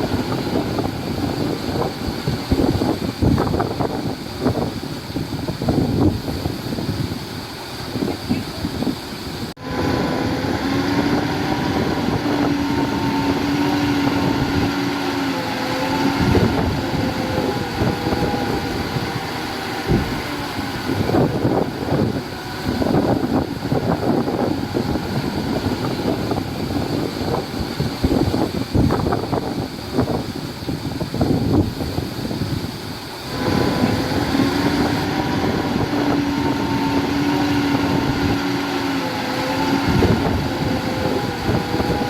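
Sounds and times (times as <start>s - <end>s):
diesel engine humming: 0.0s - 42.0s
machinery clanking: 0.0s - 42.0s.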